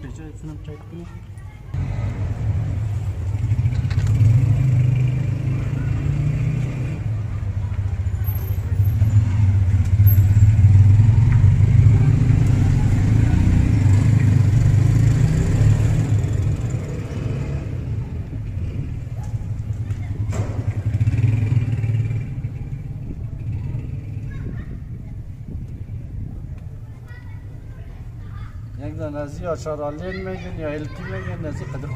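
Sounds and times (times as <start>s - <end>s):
motorcycle engines: 0.0s - 31.9s
street traffic rumble: 0.0s - 31.9s.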